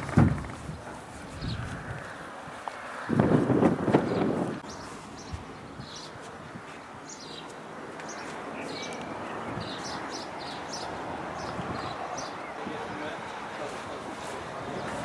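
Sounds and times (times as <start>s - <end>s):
small birds chirping: 0.0s - 2.7s, 4.0s - 15.0s
outdoor background noise: 0.0s - 15.0s.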